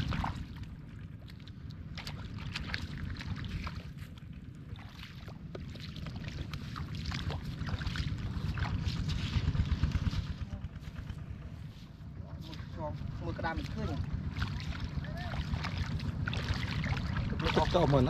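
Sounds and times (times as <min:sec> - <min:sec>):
steady low rumble: 0:00.0 - 0:18.0
water splashing and sloshing: 0:00.0 - 0:18.0.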